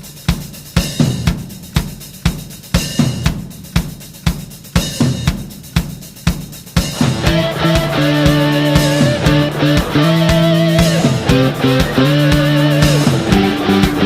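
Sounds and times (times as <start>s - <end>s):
rock drum beat: 0.0s - 14.0s.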